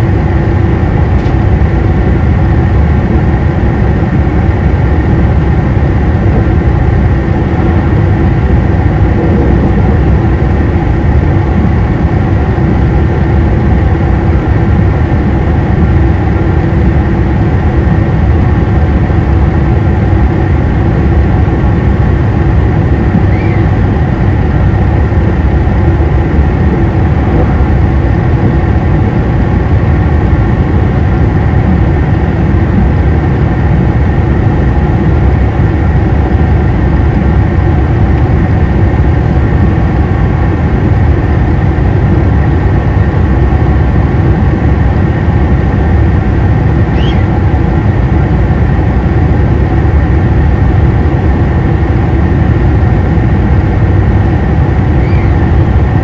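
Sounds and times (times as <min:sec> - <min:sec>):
diesel railcar engine drone: 0:00.0 - 0:56.0.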